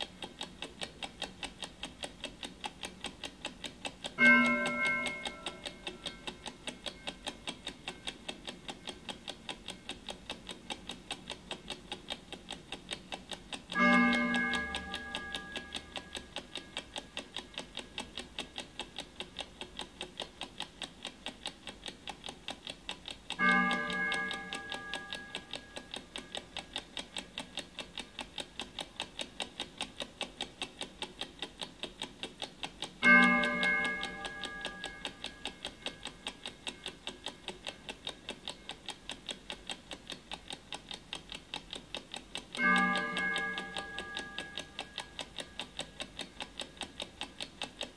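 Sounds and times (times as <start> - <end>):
clock ticking: 0.0 - 47.9.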